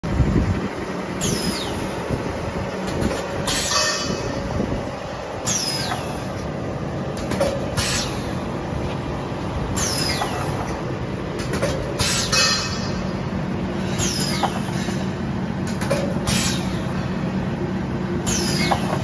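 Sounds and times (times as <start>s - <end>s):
machine mechanical noise: 0.0s - 19.0s.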